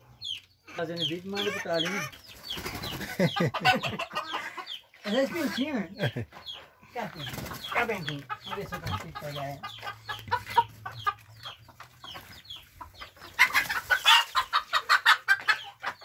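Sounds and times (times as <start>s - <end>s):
flock of chickens clucking: 0.0s - 16.0s.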